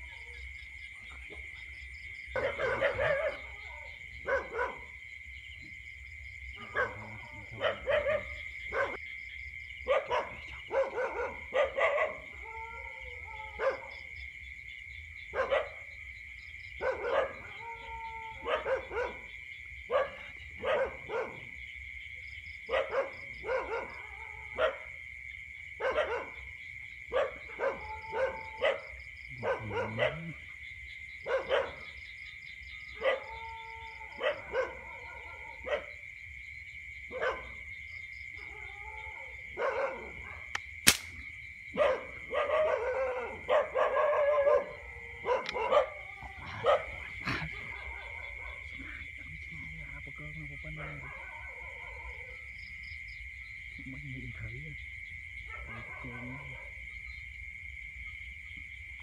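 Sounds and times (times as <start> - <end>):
night insects droning: 0.0 - 59.0.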